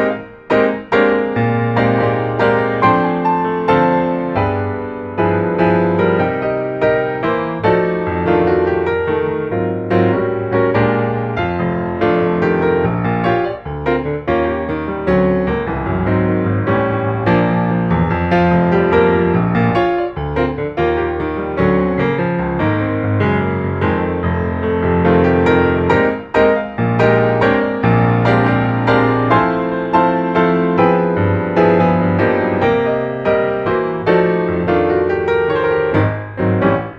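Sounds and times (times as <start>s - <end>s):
piano background music: 0.0s - 36.9s.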